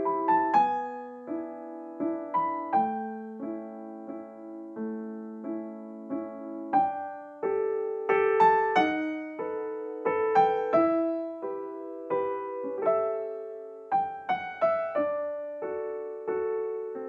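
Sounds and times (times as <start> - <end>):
gentle solo piano piece: 0.0 - 17.0.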